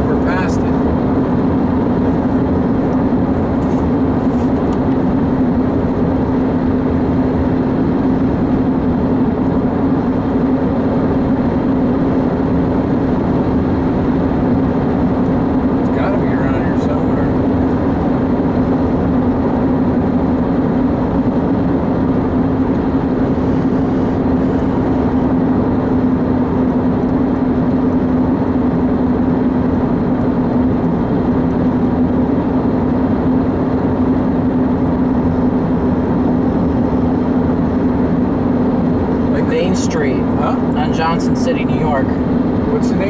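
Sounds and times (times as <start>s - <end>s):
road and engine noise in car: 0.0s - 43.0s.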